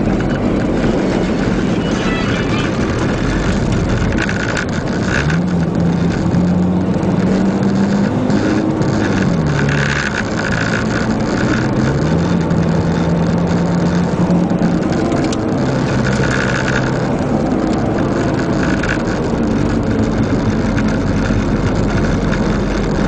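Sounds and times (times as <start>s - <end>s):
race car engine from cabin: 0.0s - 23.0s
road noise rushing: 0.0s - 23.0s.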